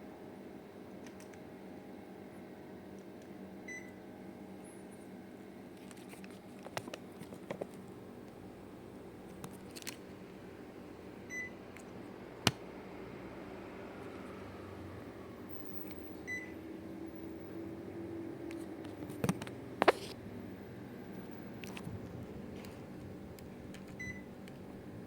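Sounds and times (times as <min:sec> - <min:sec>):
air conditioner humming: 0:00.0 - 0:25.0.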